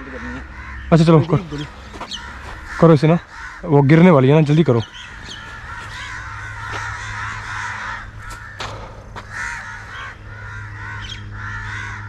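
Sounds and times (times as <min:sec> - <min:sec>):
crow-like bird caws: 0:00.0 - 0:12.0.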